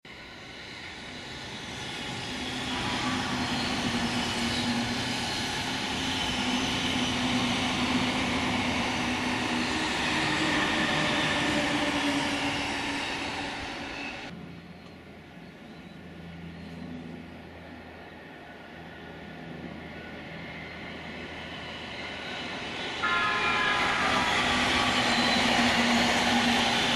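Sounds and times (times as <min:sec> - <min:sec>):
electric train passing: 0:00.1 - 0:26.9.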